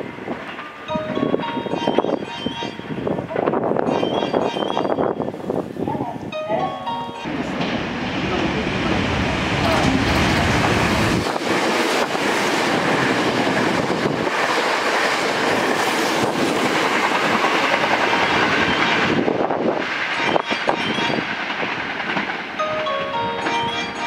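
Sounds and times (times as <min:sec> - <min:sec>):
wheels clacking over rail joints: 0:00.0 - 0:05.0, 0:07.3 - 0:24.0
train passing at speed: 0:00.0 - 0:24.0.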